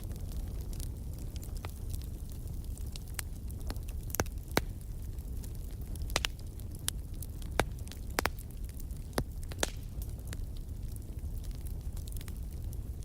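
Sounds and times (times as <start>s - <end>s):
crackles and pops of fire: 0.0s - 13.0s
wood fire burning: 0.0s - 13.0s.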